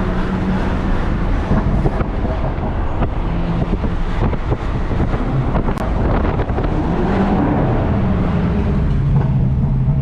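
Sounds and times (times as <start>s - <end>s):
car engine: 0.0s - 10.0s
road noise: 0.0s - 10.0s
wind buffeting microphone: 0.0s - 10.0s.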